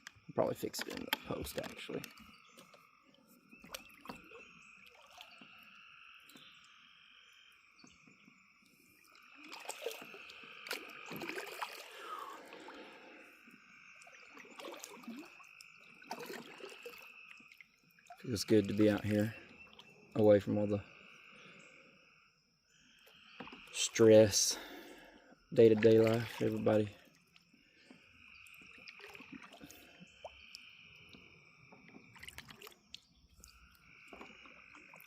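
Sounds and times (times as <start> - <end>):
frogs calling: 0.0 - 35.0.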